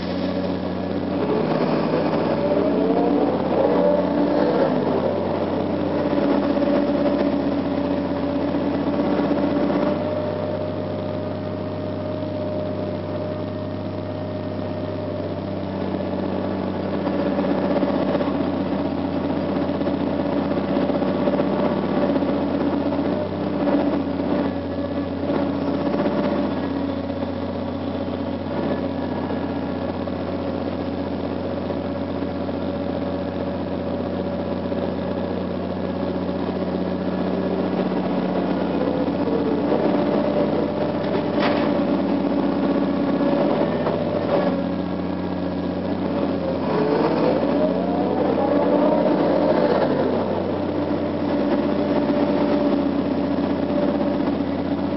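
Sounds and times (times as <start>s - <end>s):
excavator diesel engine under load: 0.0s - 54.9s
hydraulic whine: 0.0s - 54.9s.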